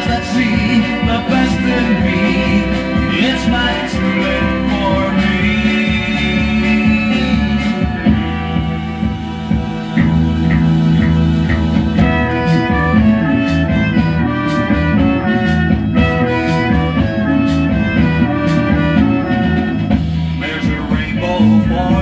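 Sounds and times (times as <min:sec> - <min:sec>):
drum and cymbal hits: 0:00.0 - 0:22.0
garage rock instrumental on turntable: 0:00.0 - 0:22.0.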